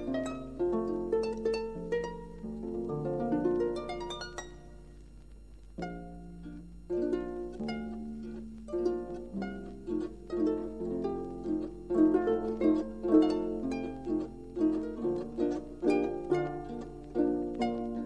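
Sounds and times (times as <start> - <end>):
solo harp playing: 0.0 - 5.0, 5.8 - 18.0.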